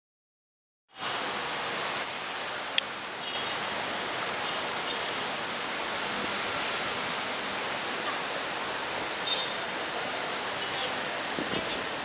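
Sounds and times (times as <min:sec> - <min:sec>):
city street traffic hiss: 0:00.9 - 0:12.0.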